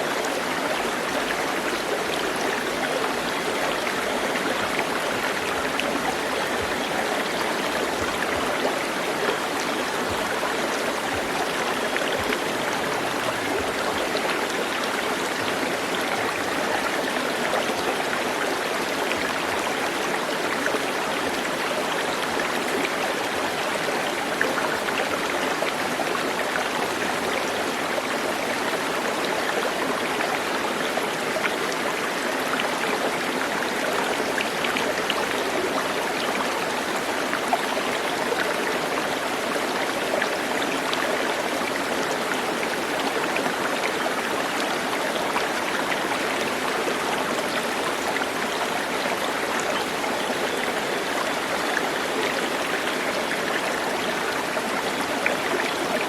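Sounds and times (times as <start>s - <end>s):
stream water running: 0.0s - 56.0s.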